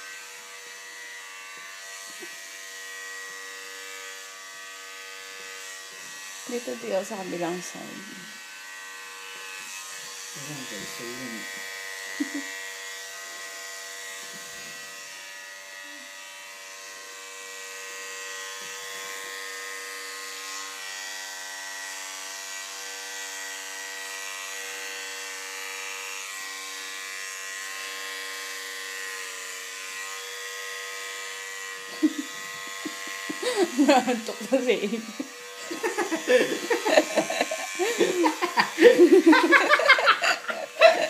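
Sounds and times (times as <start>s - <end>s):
electric hair clippers buzzing: 0.0s - 41.0s.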